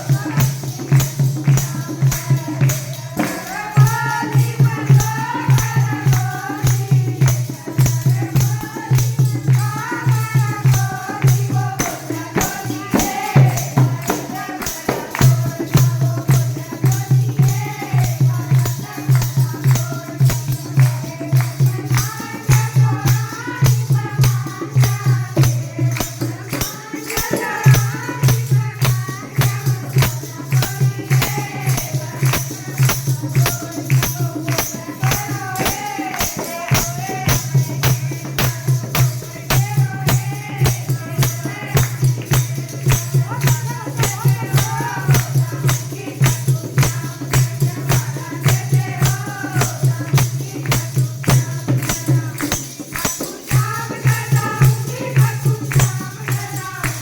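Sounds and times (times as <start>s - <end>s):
fast percussion: 0.0s - 57.0s.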